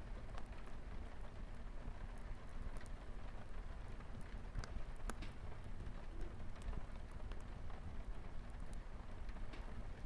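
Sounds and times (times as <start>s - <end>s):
light rain on a window: 0.2s - 10.0s.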